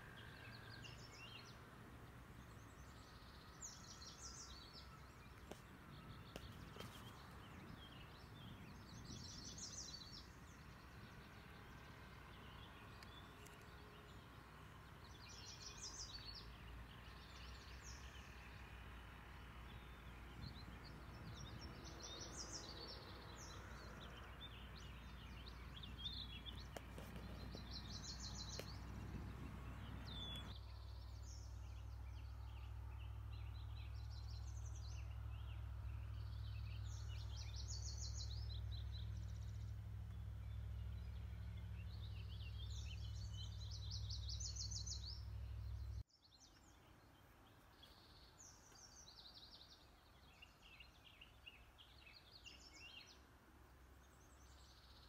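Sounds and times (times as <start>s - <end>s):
songbirds trilling: 0.0s - 55.0s.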